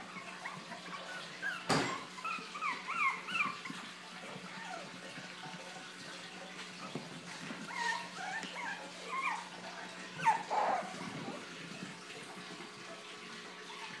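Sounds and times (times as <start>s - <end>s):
puppies whimpering and yipping: 0.0s - 14.0s.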